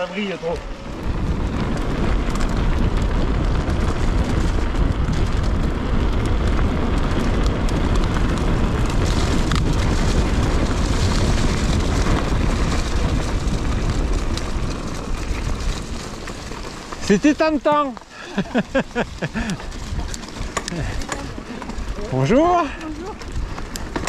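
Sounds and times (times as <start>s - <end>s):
bike clicks and rattles: 0.0s - 24.0s
wind buffeting microphone: 0.0s - 24.0s.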